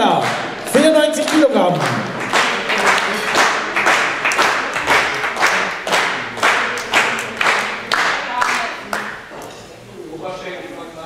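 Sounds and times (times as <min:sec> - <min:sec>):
spectators clapping in rhythm: 0:00.0 - 0:09.5.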